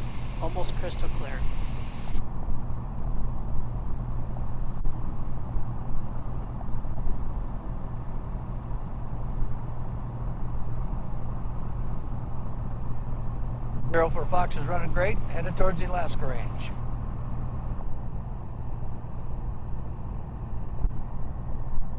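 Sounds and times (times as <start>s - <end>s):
airplane engine droning: 0.0s - 21.9s.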